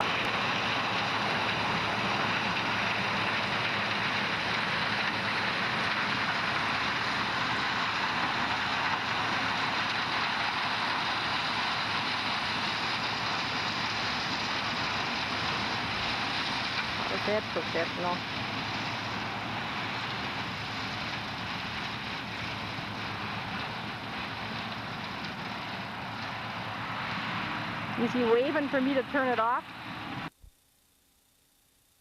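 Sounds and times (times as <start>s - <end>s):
tractor engine running: 0.0s - 30.4s.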